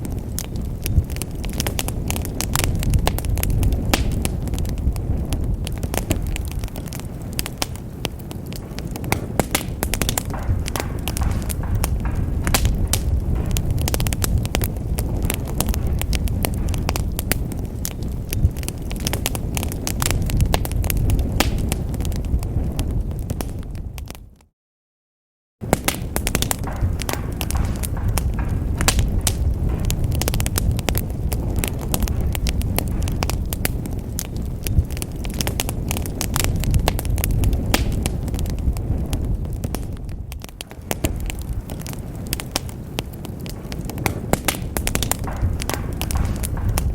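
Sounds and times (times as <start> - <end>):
fire crackling and popping: 0.0 - 24.5, 25.6 - 46.9.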